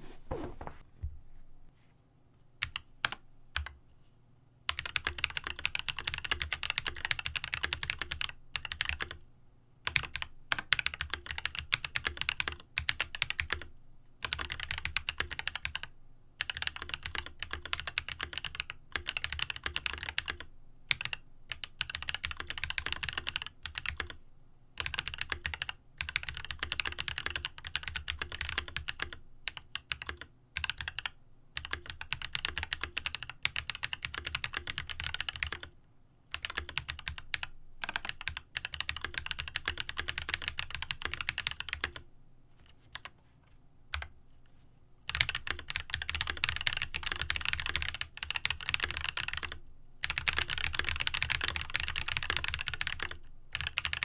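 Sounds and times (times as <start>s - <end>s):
mechanical keyboard typing: 2.6s - 3.8s, 4.7s - 9.2s, 9.8s - 24.2s, 24.8s - 35.7s, 36.3s - 42.0s, 45.1s - 54.0s.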